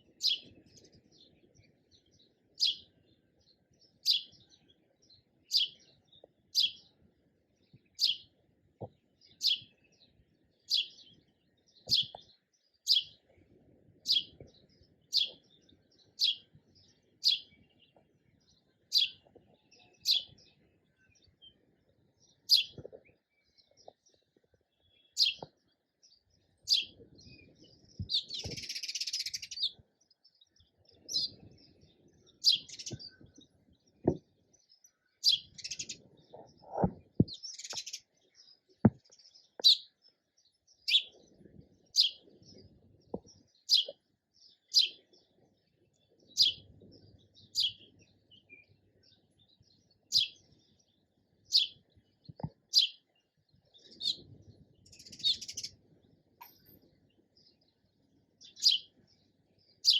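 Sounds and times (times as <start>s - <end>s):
rapid bird chatter: 0.0s - 55.8s, 56.9s - 59.9s
sparrow chirping: 0.0s - 59.9s.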